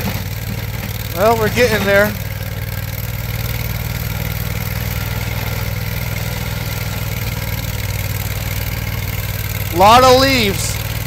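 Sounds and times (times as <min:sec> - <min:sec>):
vibratory plow running: 0:00.0 - 0:11.0.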